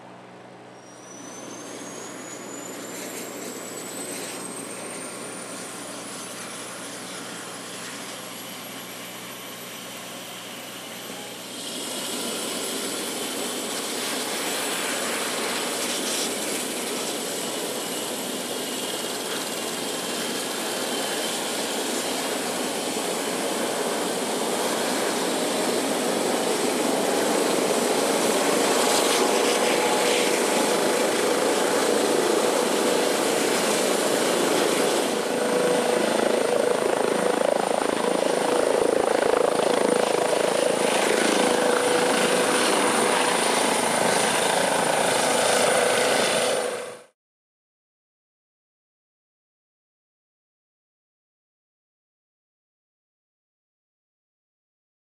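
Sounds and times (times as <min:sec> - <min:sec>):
high turbine whine: 0:00.0 - 0:47.1
helicopter rotor and turbine: 0:00.8 - 0:47.2.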